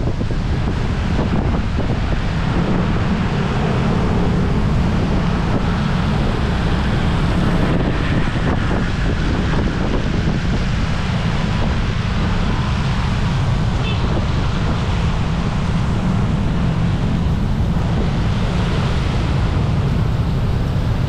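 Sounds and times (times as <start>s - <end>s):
tyres on wet pavement: 0.0s - 21.0s
wind on microphone: 0.0s - 21.0s.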